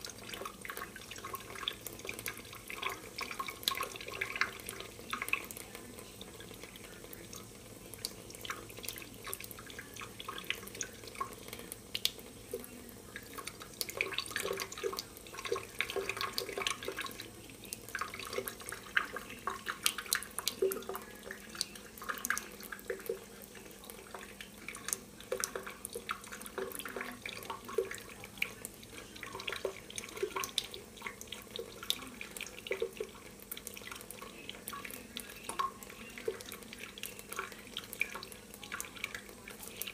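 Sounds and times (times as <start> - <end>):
faucet water into metal sink: 0.0 - 39.9
water dripping: 0.0 - 39.9.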